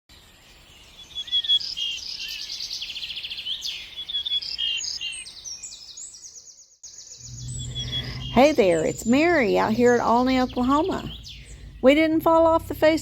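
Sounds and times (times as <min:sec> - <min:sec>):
songbirds singing: 0:00.1 - 0:13.0.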